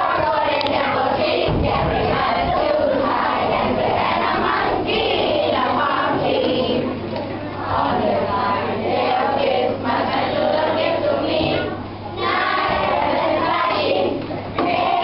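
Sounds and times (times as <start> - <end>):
children singing together: 0.0 - 15.0
crowd of children: 0.0 - 15.0.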